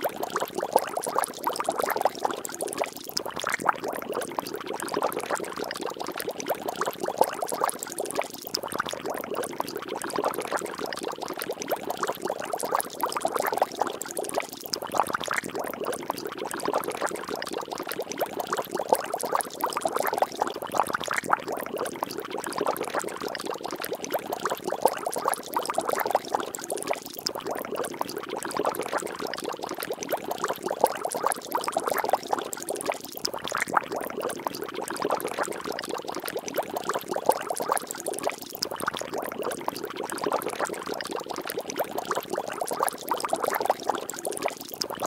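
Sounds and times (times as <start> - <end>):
water bubbling and splashing: 0.0 - 45.0.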